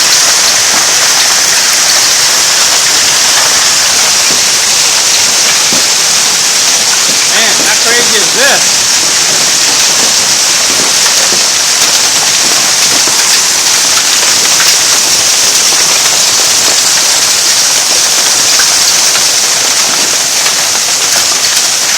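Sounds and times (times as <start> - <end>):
hail pelting down: 0.0 - 21.9.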